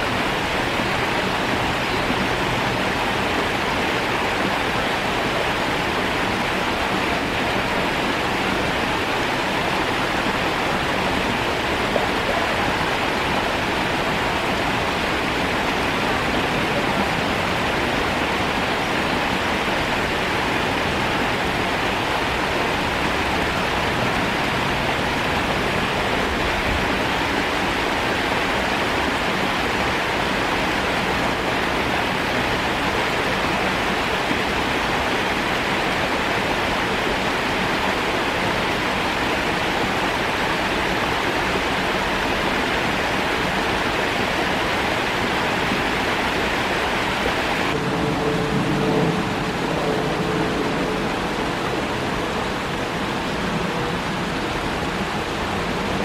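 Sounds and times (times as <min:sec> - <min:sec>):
water rushing over rock: 0:00.0 - 0:56.0.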